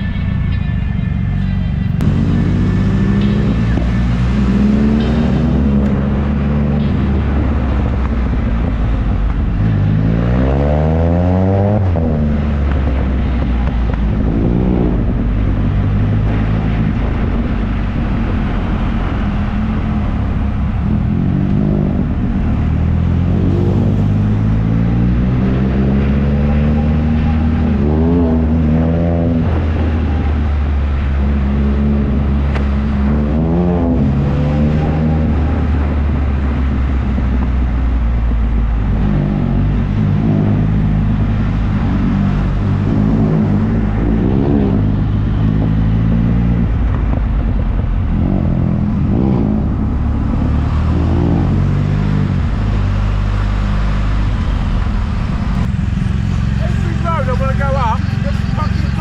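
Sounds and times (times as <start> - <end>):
motorcycle engine accelerating: 1.9 - 56.8.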